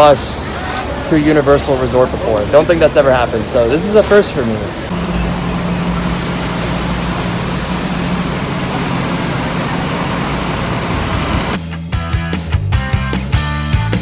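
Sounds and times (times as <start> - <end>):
bus engine droning: 0.0 - 11.7.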